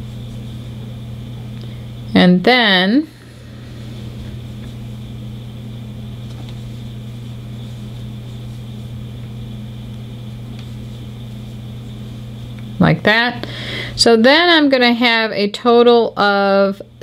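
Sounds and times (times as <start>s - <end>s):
faint high whine: 0.0s - 17.0s
low electrical hum: 0.0s - 17.0s.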